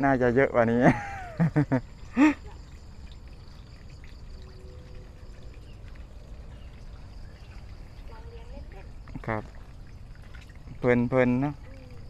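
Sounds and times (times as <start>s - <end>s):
faint water trickle: 0.0s - 12.0s.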